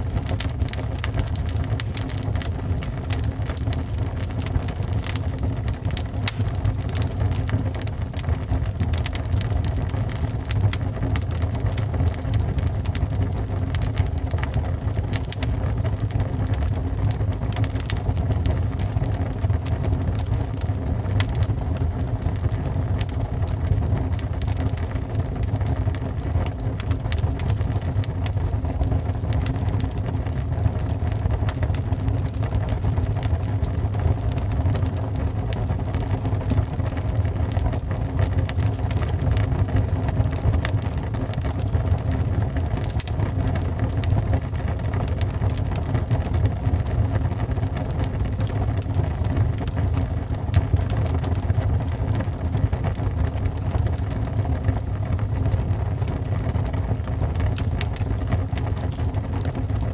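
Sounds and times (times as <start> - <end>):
fire low rumble: 0.0 - 59.9
wood fire crackling and popping: 0.0 - 59.9.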